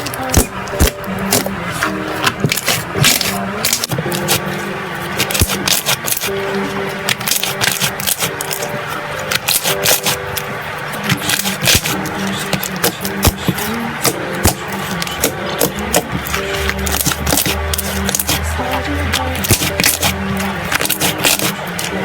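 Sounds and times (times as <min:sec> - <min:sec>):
crunchy slime crackling: 0:00.0 - 0:22.0.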